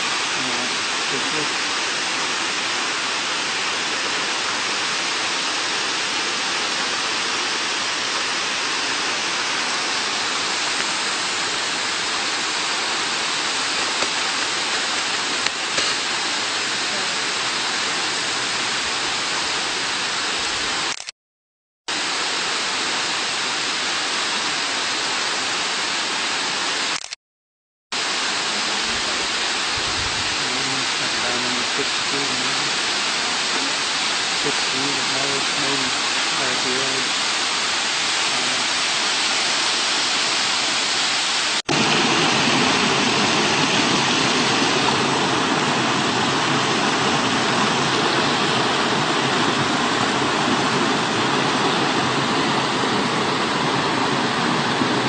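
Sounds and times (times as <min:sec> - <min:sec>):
waterfall rushing: 0:00.0 - 0:20.9, 0:21.9 - 0:27.0, 0:28.0 - 0:55.0.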